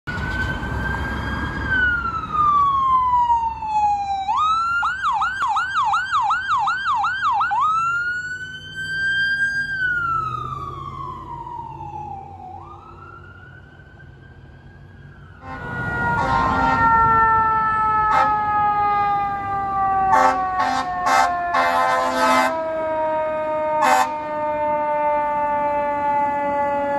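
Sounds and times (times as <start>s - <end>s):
fire truck siren: 0.1s - 26.9s.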